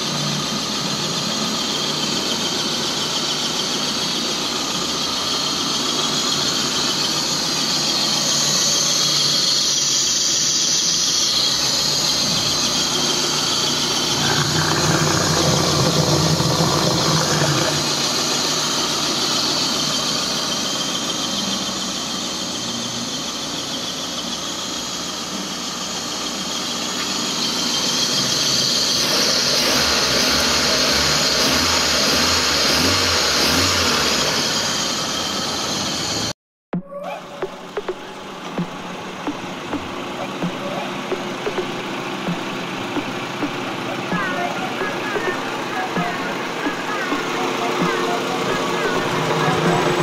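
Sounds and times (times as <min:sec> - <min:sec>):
car engine running: 0:00.0 - 0:36.3, 0:37.2 - 0:50.0
high-pitched squeal: 0:00.0 - 0:50.0.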